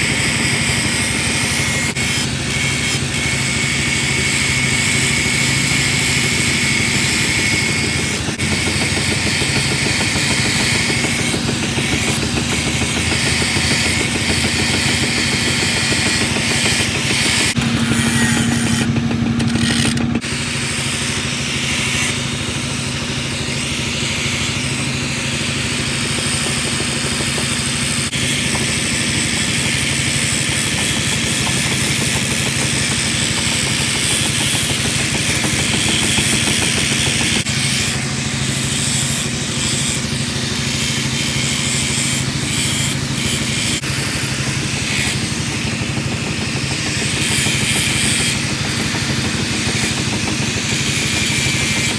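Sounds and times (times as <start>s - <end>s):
angle grinder grinding steel: 0.0s - 51.9s.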